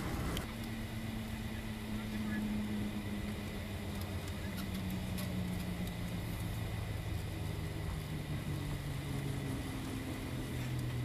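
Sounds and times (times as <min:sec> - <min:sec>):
jet engine hum: 0:00.0 - 0:11.0.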